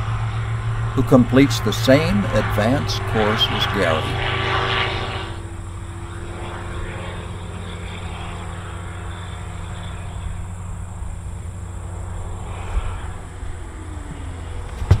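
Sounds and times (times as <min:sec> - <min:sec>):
small plane engine and propeller droning: 0:00.0 - 0:15.0.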